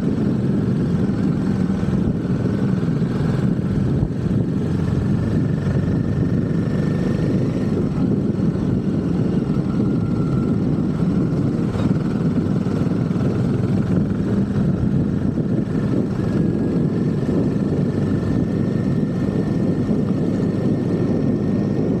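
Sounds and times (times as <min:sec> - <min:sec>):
constant rushing noise: 0:00.0 - 0:22.0
motorcycle engine running: 0:00.0 - 0:22.0.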